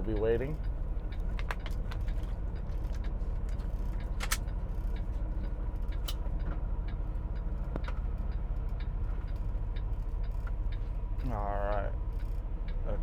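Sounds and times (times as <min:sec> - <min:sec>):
diesel engine idling: 0:00.0 - 0:13.0
sharp clicks and ticks: 0:00.1 - 0:12.5.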